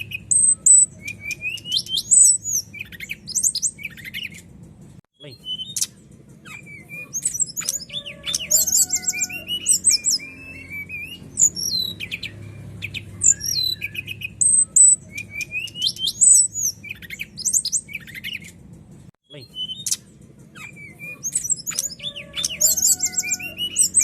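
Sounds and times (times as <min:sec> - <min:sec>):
bird singing whistles and trills: 0:00.0 - 0:04.5, 0:05.2 - 0:18.6, 0:19.3 - 0:24.0.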